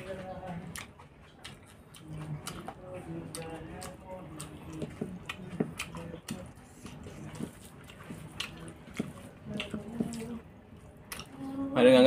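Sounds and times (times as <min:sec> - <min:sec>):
person chewing food: 0:00.0 - 0:11.7.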